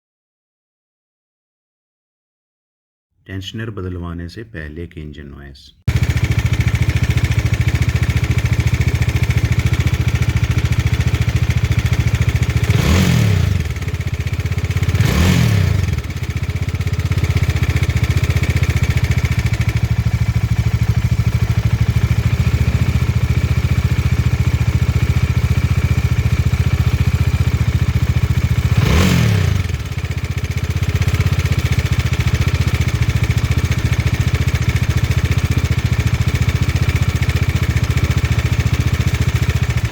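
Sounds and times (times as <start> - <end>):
engine revving: 5.9 - 39.9
motorcycle engine idling: 5.9 - 39.9.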